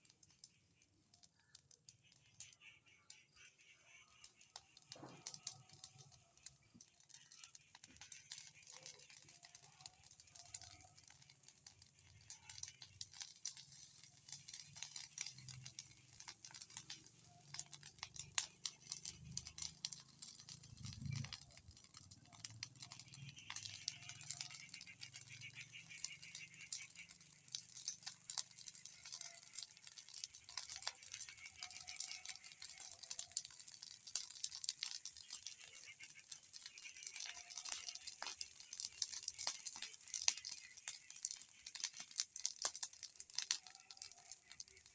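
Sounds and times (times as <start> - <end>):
bonfire crackling: 0.0 - 44.9.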